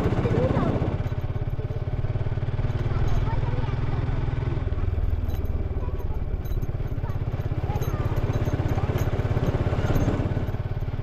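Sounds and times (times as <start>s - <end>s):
motorcycle engine pulsing exhaust: 0.0s - 11.0s.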